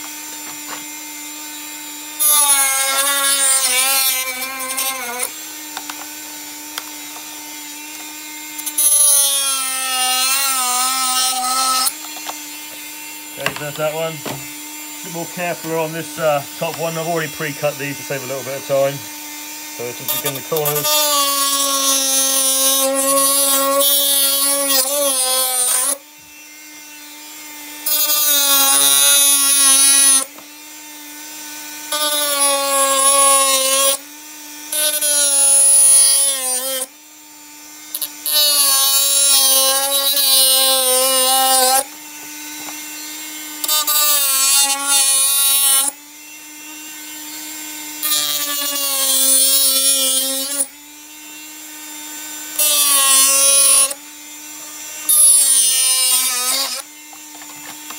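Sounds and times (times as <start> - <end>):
cutting wheel grinding plastic: 0.0 - 31.1, 37.9 - 57.9
rotary tool whining: 0.0 - 57.9.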